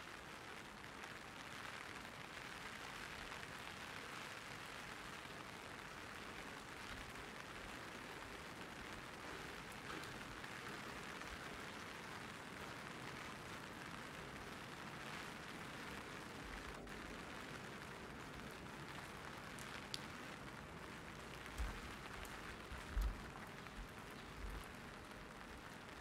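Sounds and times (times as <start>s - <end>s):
rain pattering on an umbrella: 0.0s - 26.0s.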